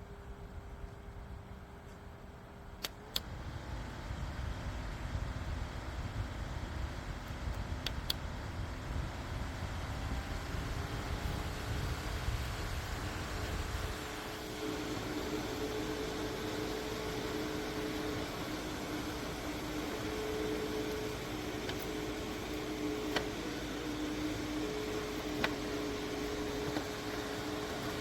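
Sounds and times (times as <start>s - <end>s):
desk fan running: 0.0s - 28.0s.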